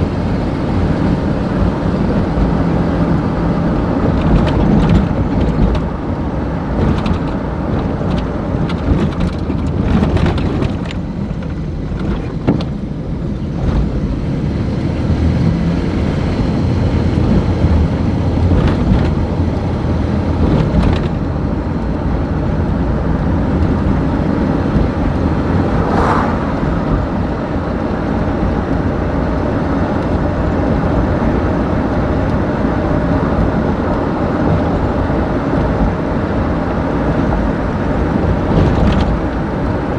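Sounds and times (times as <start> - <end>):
car rumbling on the move: 0.0 - 39.9.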